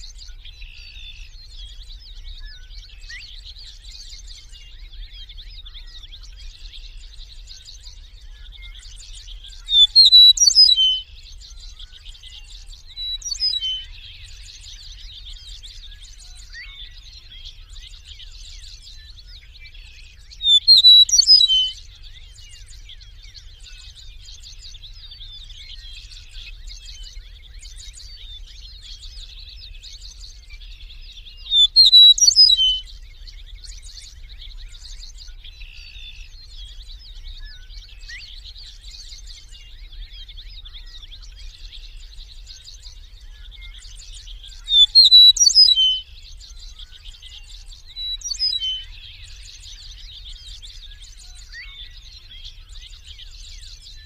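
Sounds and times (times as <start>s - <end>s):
faint high bird chirping: 0.0s - 54.0s
meadowlark singing: 0.0s - 54.0s.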